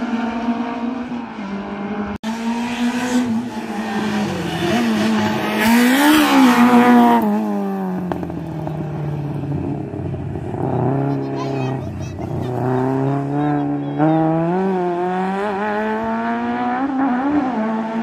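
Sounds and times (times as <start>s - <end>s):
race car engine at high revs: 0.0s - 18.0s.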